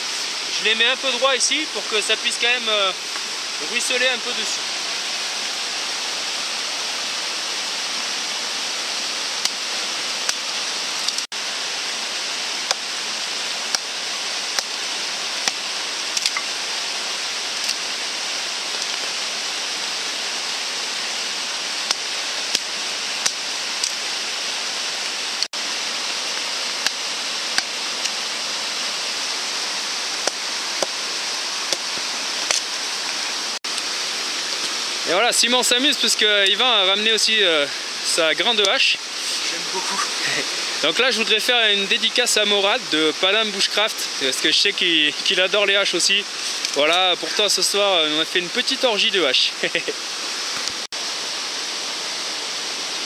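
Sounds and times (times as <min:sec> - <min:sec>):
heavy rain hissing: 0:00.0 - 0:53.0.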